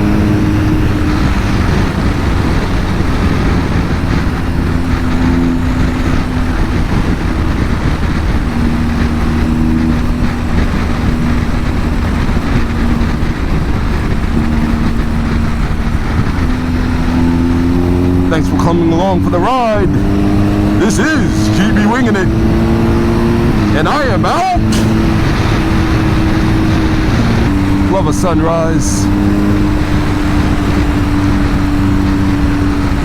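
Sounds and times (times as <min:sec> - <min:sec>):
heavy wind noise: 0:00.0 - 0:33.0
motorcycle engine running: 0:00.0 - 0:33.0.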